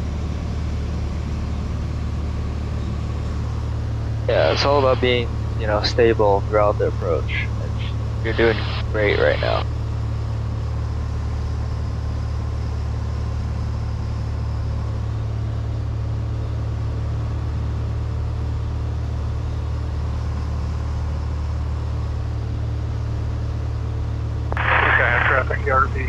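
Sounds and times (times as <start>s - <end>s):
airplane engine droning in cockpit: 0.0s - 26.0s.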